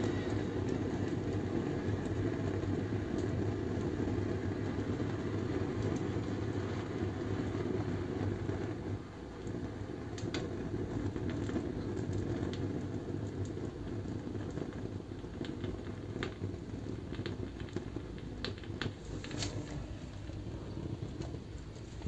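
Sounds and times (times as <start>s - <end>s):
sharp crackles and ticks: 0.0s - 7.7s, 9.3s - 22.0s
stove flame rushing: 0.0s - 22.0s.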